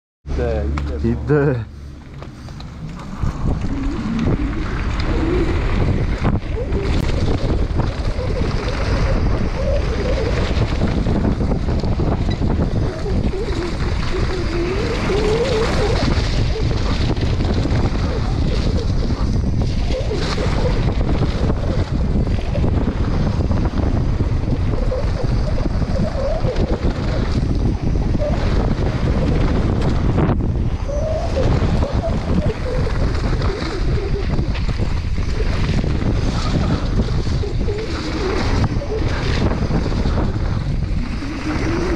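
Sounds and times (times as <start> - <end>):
tyres rumbling on dirt trail: 0.3 - 41.9
wind rushing over microphone: 0.3 - 41.9.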